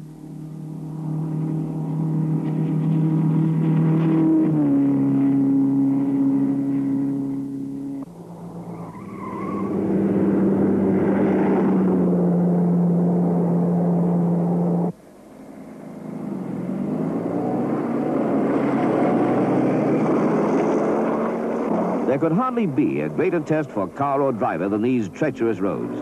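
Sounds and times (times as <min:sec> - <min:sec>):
rally car engines running hard: 0:00.0 - 0:26.0.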